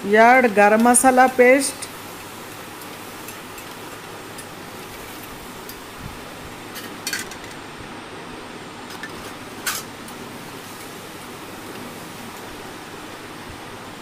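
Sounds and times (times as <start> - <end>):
gas stove hissing: 0.0 - 14.0.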